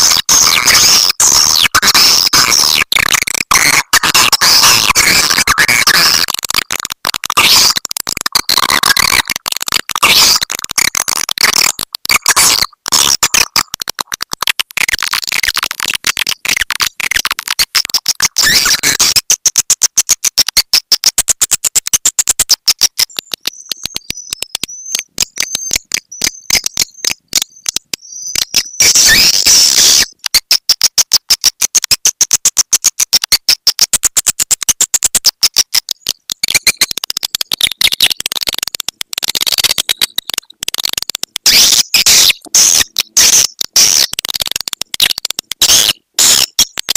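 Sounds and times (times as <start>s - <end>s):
high chirping clicks: 0.0s - 46.9s.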